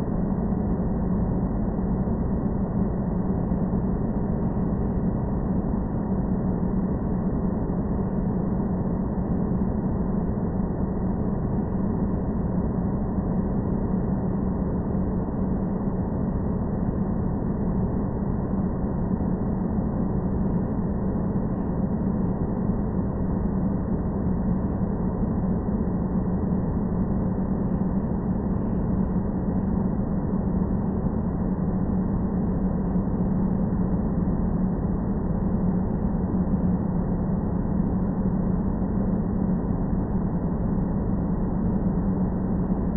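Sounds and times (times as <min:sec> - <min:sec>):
airplane drone with low hum: 0:00.0 - 0:42.9.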